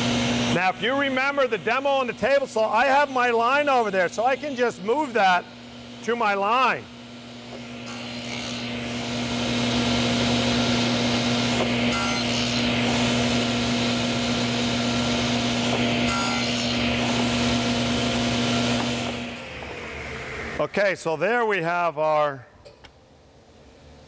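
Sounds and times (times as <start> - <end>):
table saw cutting wood: 0.0 - 20.7.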